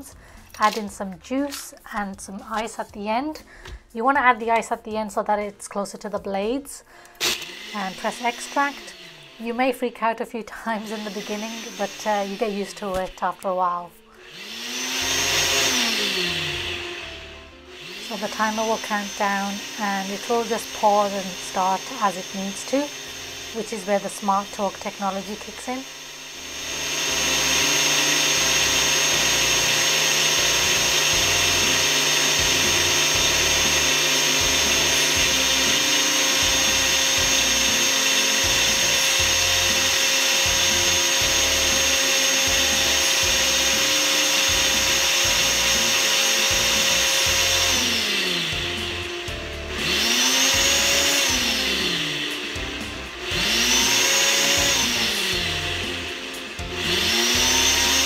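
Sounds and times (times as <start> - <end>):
blender running: 7.2 - 9.9, 10.6 - 58.0.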